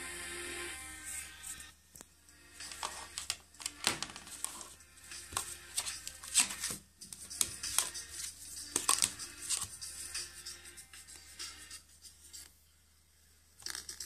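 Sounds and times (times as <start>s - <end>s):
lo-fi song through small speaker: 0.0s - 14.0s.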